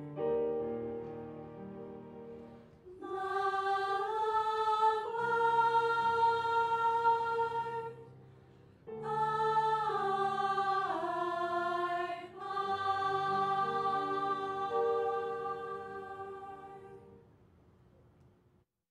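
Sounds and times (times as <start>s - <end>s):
choir singing in harmony: 1.6s - 17.2s.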